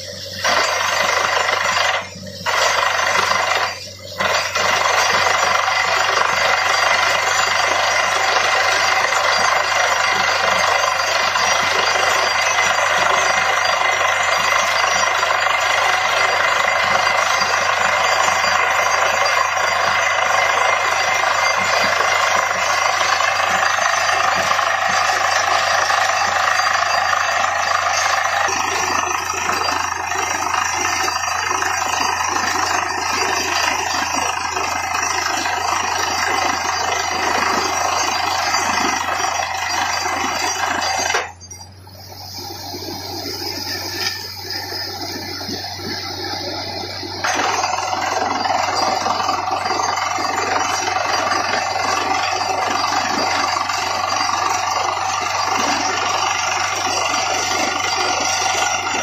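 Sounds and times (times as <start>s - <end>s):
drilling rig rattling: 0.0s - 59.0s
engine humming: 0.0s - 59.0s.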